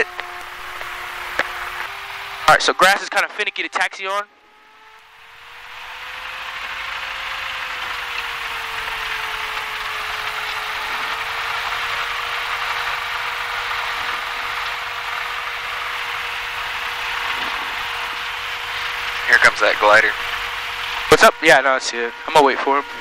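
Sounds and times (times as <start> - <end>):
small plane engine and propeller: 0.0 - 23.0.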